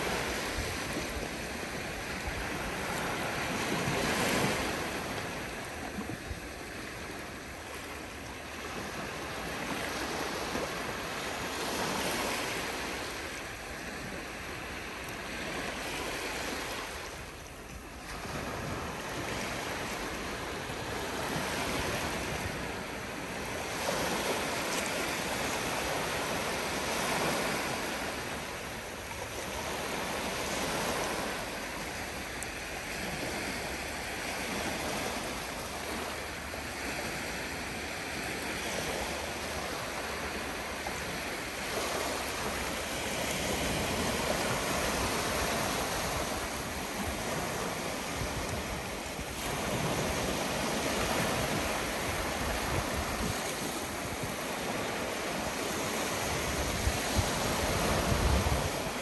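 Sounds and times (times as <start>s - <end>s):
waves washing onto shore: 0.0s - 59.0s.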